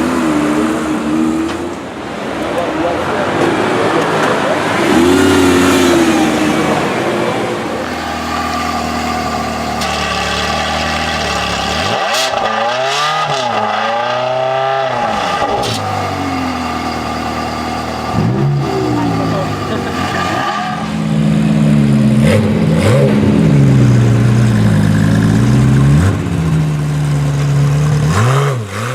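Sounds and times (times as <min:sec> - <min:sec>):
car engine idling and blipped: 0:00.0 - 0:28.9
car engine revving: 0:00.0 - 0:28.9.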